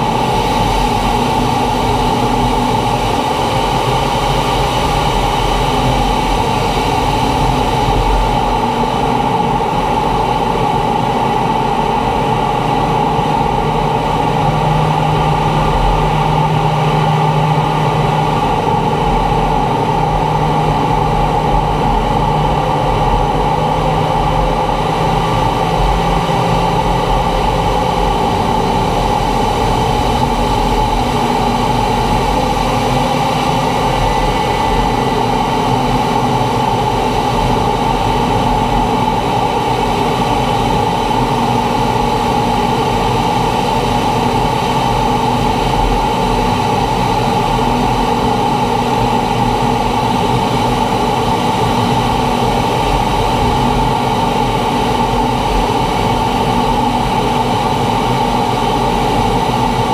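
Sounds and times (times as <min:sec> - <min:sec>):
jet engine drone: 0:00.0 - 0:59.9
rushing airflow: 0:00.0 - 0:59.9.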